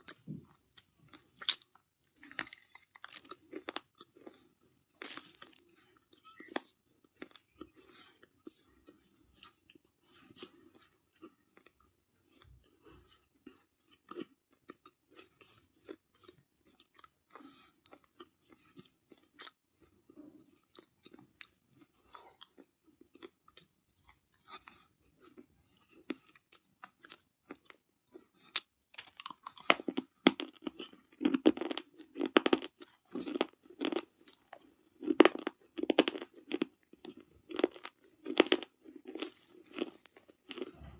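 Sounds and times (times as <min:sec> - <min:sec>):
baked clay being chewed: 0:00.0 - 0:40.9.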